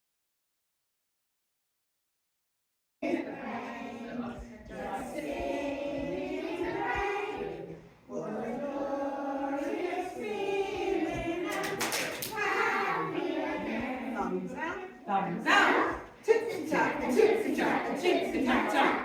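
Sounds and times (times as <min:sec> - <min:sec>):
group singing unaccompanied chant: 0:03.0 - 0:19.0.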